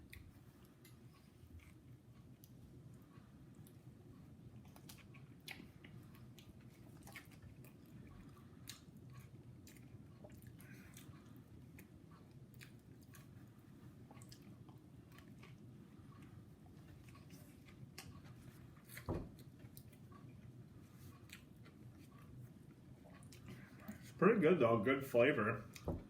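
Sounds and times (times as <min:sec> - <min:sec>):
person chewing: 0:00.0 - 0:24.2
low room hum: 0:00.0 - 0:26.0.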